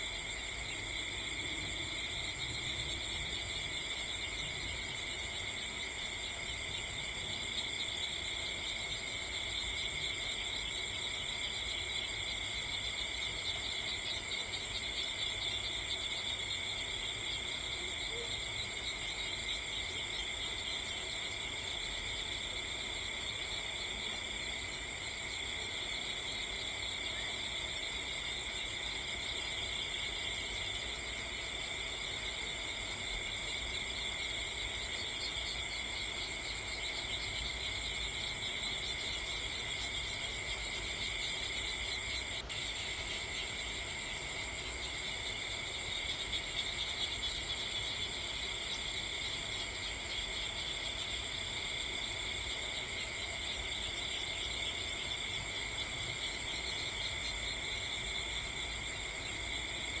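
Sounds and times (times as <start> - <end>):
night insects trilling: 0.0 - 60.0.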